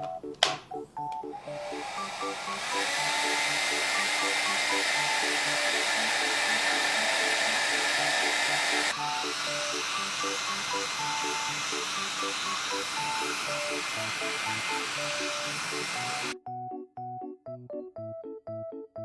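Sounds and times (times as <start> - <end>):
hair dryer running: 1.1 - 16.4.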